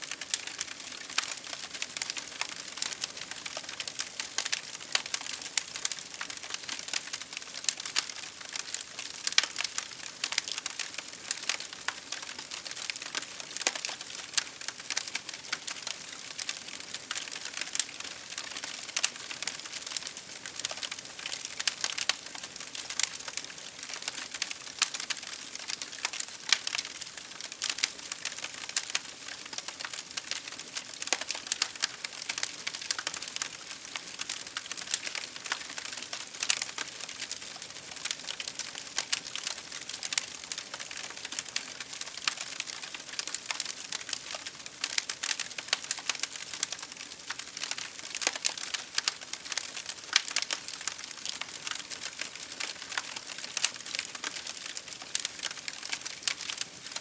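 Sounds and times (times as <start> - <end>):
fire crackling: 0.1 - 57.0.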